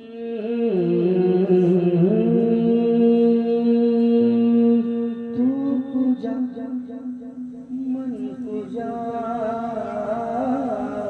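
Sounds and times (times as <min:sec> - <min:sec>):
man singing wordless held notes: 0:00.0 - 0:11.0.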